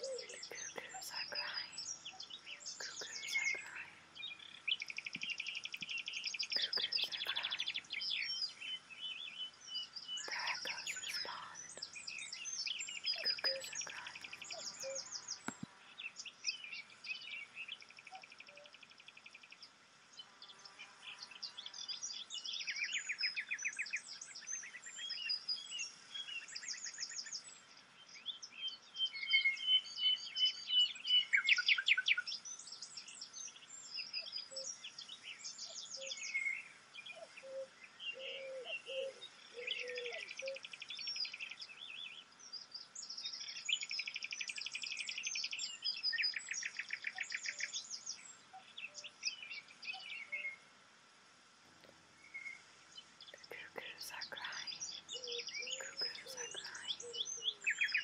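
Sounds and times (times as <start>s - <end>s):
small birds chirping and trilling: 0.0s - 50.9s, 51.7s - 58.0s.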